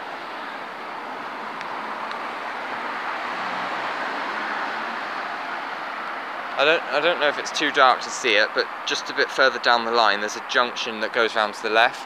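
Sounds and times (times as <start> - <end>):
vehicle rumble and road traffic: 0.0 - 12.0.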